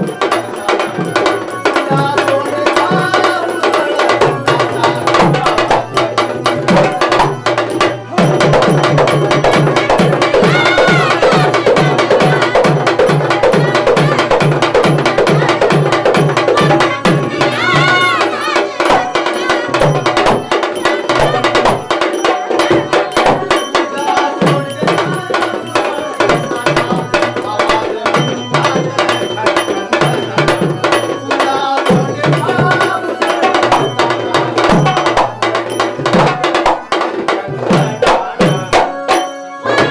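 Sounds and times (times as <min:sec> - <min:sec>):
fast hand-drum rhythm: 0:00.0 - 0:39.9.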